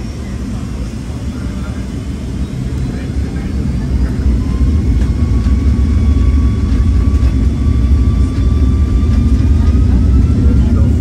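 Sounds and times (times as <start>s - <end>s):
jet engines spooling up: 0.0s - 11.0s.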